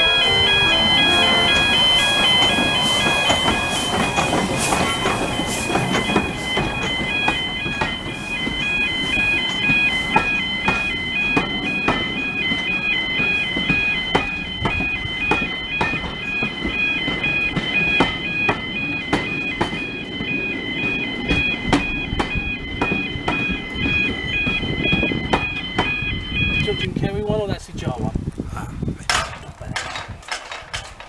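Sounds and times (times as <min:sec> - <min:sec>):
two-tone electronic alarm: 0:00.0 - 0:27.0.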